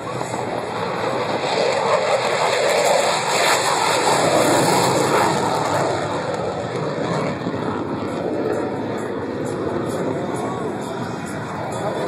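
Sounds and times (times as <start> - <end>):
aircraft engine passing: 0.0 - 12.0.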